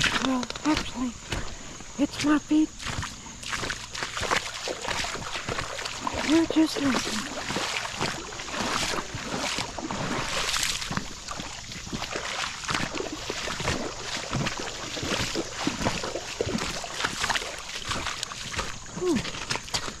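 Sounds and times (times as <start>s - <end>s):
footsteps wading through water: 0.0s - 20.0s
water sloshing and splashing: 0.0s - 20.0s.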